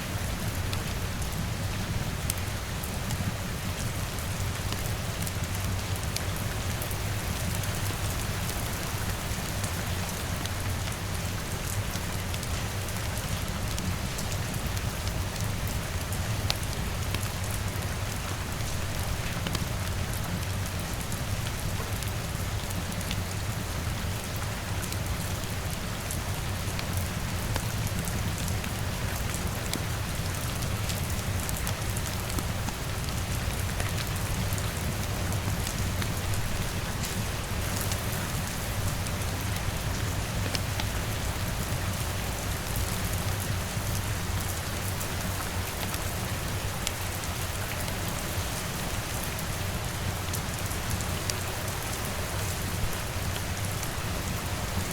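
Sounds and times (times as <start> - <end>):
rain pattering on a window: 0.0 - 54.9.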